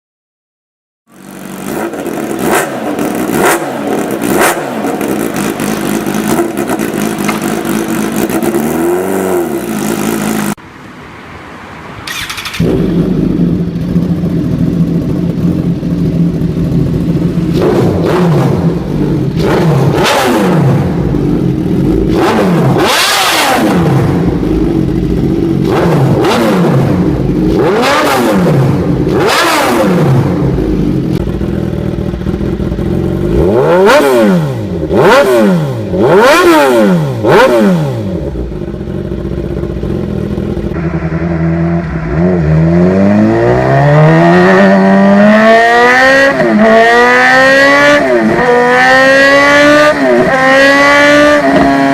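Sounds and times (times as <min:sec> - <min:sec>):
motorcycle engine revving: 0:01.1 - 0:10.6, 0:12.0 - 0:51.9.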